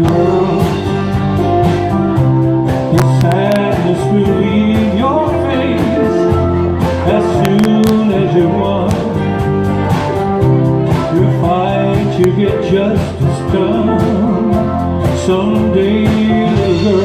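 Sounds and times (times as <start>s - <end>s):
country guitar music: 0.0s - 17.0s.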